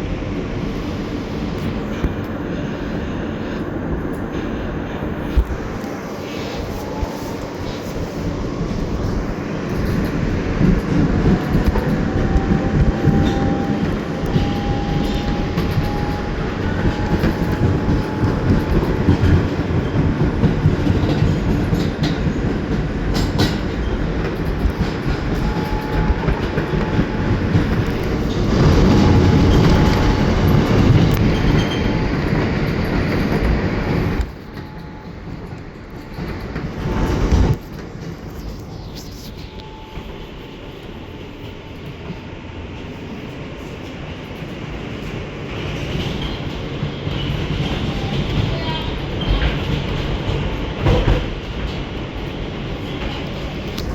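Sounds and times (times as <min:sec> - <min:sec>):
subway train rumble: 0:00.0 - 0:53.9.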